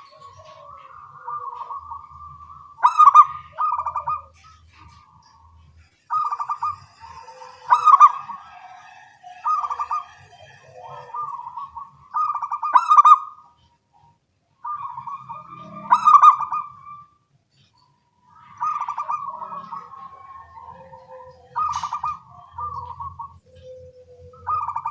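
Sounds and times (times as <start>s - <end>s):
doves cooing: 0.0s - 24.9s.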